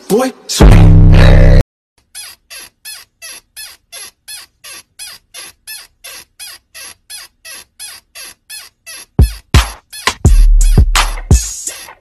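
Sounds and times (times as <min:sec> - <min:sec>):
short high squeaks sliding down: 0:02.0 - 0:12.0.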